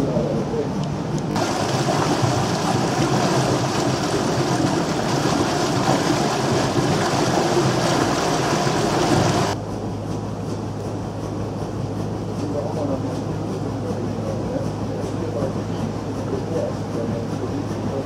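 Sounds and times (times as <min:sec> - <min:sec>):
low steady hum: 0:00.0 - 0:18.0
water rushing along boat hull: 0:00.4 - 0:09.6, 0:11.5 - 0:18.0.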